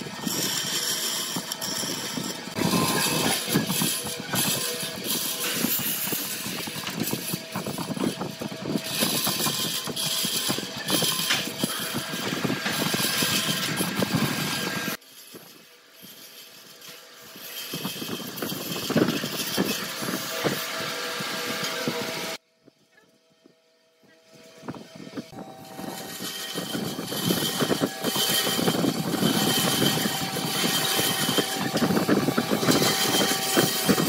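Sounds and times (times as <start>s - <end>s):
bandsaw rasping through wood: 0.0s - 15.4s, 16.0s - 22.4s, 25.3s - 34.0s.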